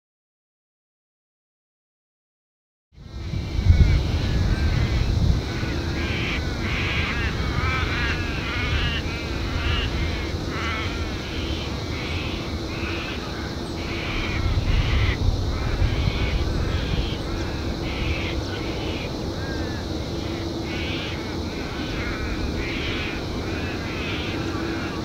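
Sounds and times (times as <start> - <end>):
steady low rumble: 3.0 - 25.0
birds chirping and cawing: 3.7 - 25.0.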